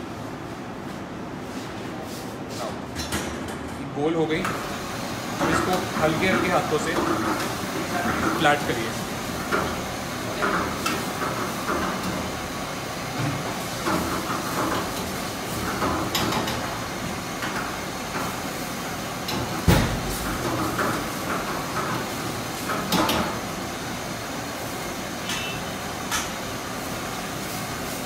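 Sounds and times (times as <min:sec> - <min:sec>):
kitchen machinery hum: 0:00.0 - 0:28.0.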